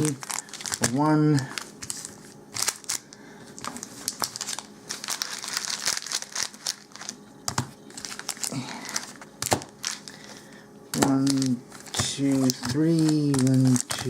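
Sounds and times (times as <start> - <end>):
card packs slapping down: 0.0 - 10.3, 10.9 - 14.0
foil wrappers crinkling: 0.0 - 14.0.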